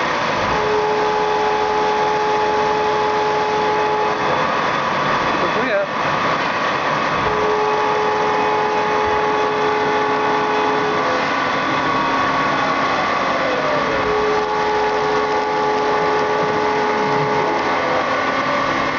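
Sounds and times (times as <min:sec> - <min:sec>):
coolant hissing: 0:00.0 - 0:18.9
milling machine spindle whine: 0:00.0 - 0:18.9.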